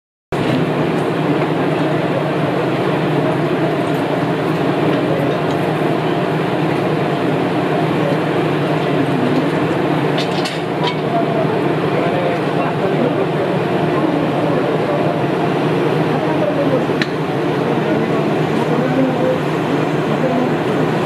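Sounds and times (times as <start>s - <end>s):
diesel railcar engines idling: 0.4s - 21.0s.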